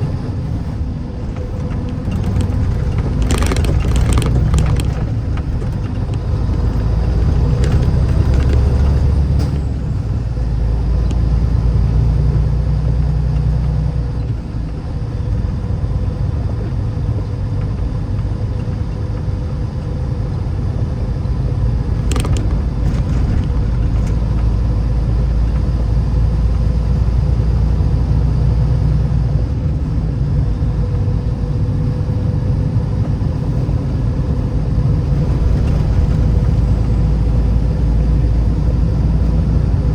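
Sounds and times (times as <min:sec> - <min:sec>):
car engine and road noise rumble: 0:00.0 - 0:39.9.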